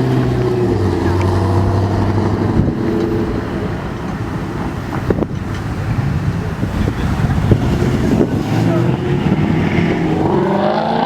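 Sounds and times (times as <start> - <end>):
car engines rumbling: 0.0 - 11.0
wind buffeting microphone: 0.0 - 11.0.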